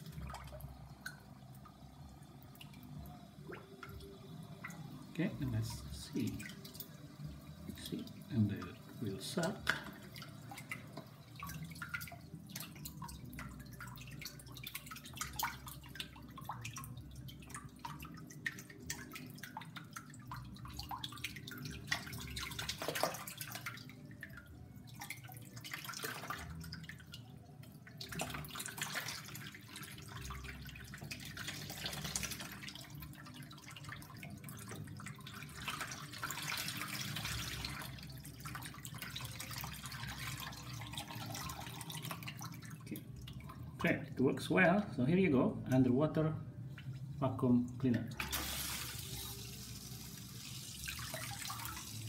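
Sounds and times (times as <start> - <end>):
water bubbling and splashing: 0.0 - 44.0, 47.9 - 52.0.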